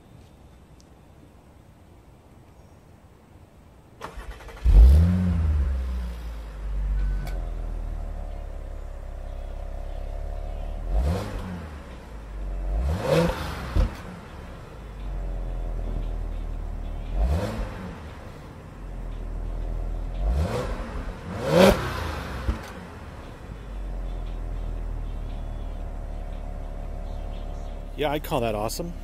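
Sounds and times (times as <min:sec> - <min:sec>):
car engine starting and idling: 0:03.8 - 0:29.0.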